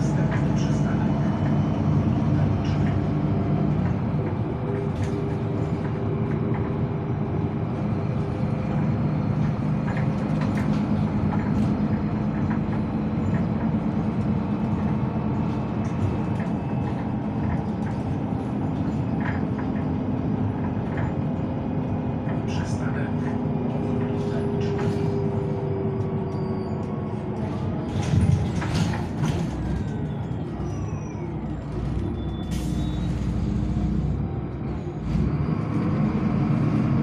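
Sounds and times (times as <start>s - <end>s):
bus drivetrain hum: 0.0s - 37.0s
rattles and clicks of bus fittings: 0.0s - 37.0s
road noise: 0.0s - 37.0s.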